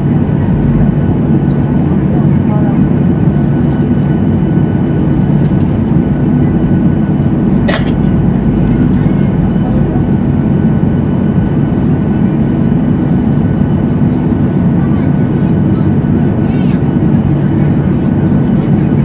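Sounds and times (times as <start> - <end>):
jet engines rumbling and whining: 0.0 - 19.0.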